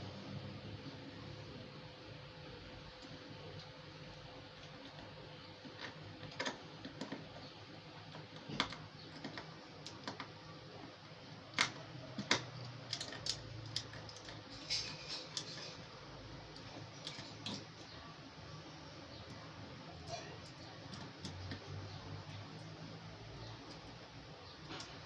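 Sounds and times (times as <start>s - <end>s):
small parts clicking and tapping: 3.0s - 18.0s, 19.1s - 25.0s.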